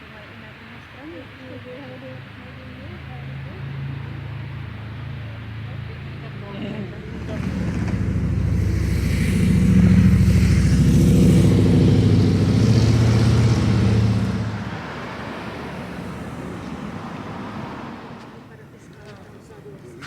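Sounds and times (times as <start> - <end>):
vehicle engine passing by: 2.1 - 18.6.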